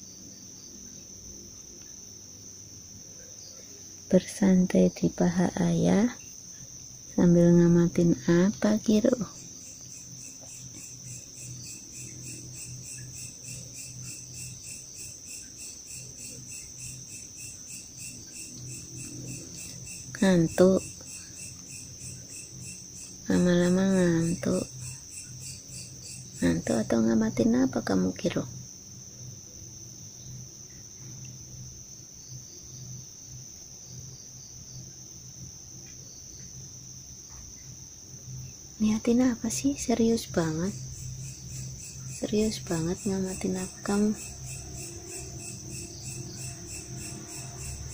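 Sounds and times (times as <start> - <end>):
crickets chirping: 0.0 - 47.9
faint low hum: 0.0 - 47.9.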